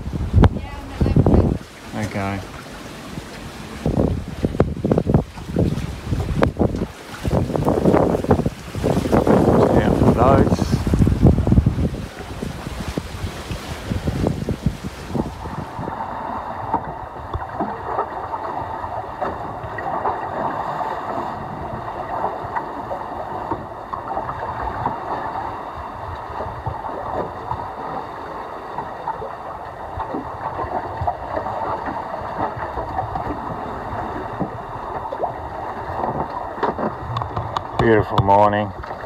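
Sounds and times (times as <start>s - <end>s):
water rushing along hulls: 0.0s - 39.0s.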